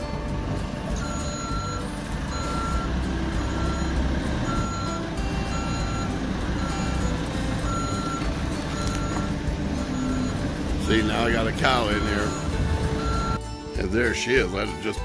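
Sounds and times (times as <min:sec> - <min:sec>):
back-up alarm beeping: 0:00.0 - 0:13.4
diesel engine running: 0:00.0 - 0:13.5.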